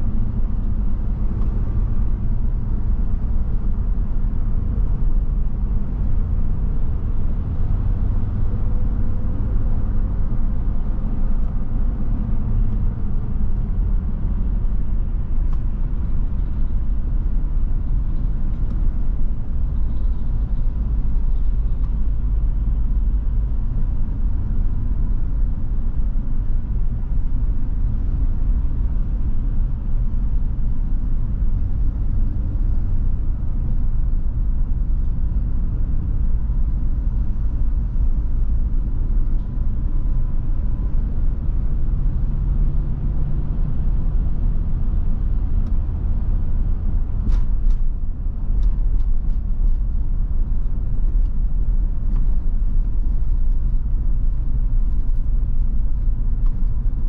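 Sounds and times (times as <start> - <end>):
road vehicle driving: 0.0 - 57.0.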